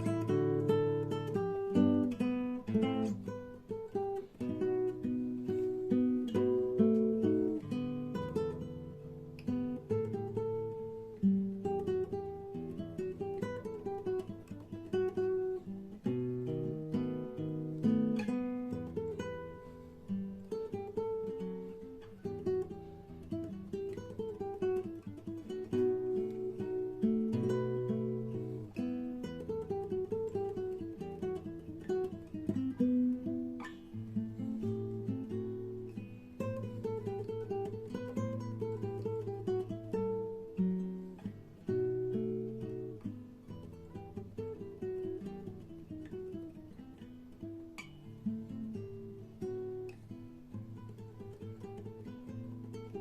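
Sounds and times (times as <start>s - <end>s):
acoustic guitar melody: 0.0s - 53.0s.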